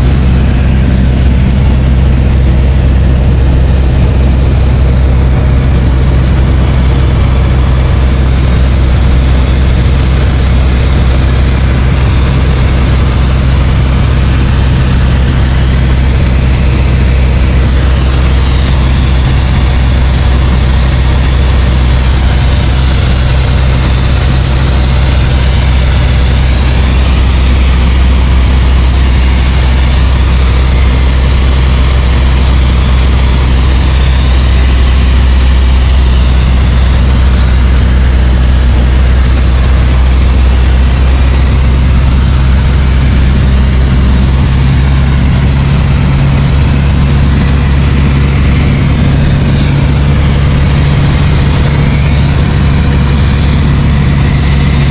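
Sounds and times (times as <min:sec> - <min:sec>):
aircraft piston engine drone: 0:00.0 - 0:54.9.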